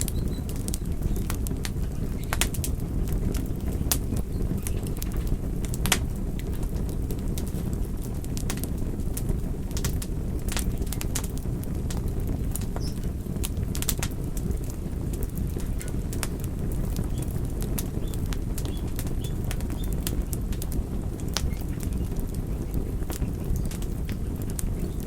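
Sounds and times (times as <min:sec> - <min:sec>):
fire crackles and pops: 0:00.0 - 0:25.0
low rumble of flame: 0:00.0 - 0:25.0.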